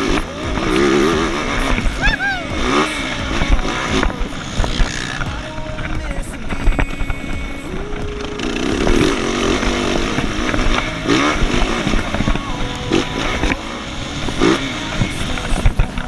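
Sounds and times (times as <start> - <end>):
motocross bike engine running: 0.0 - 16.0.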